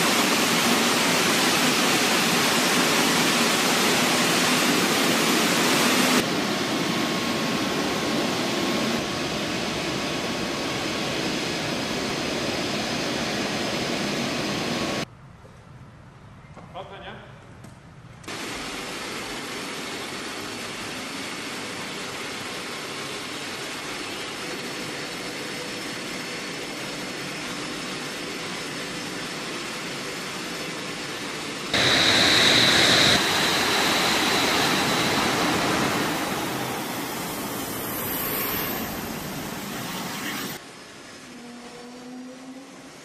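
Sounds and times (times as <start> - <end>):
jet engine rushing and whining: 0.0 - 15.1, 18.2 - 43.0.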